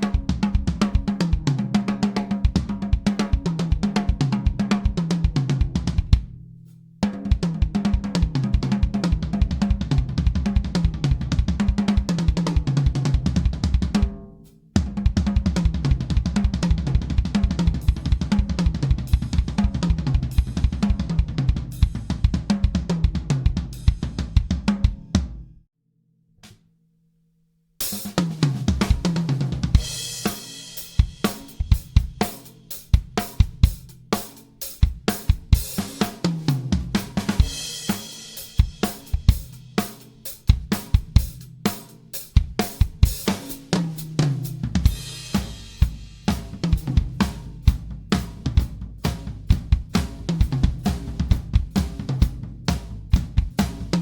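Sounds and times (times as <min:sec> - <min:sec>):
drum fills across toms: 0:00.0 - 0:06.3, 0:07.1 - 0:25.4, 0:28.0 - 0:34.2, 0:34.8 - 0:54.0
bass drum: 0:00.0 - 0:25.6, 0:28.1 - 0:34.2, 0:34.8 - 0:41.7, 0:42.3 - 0:54.0.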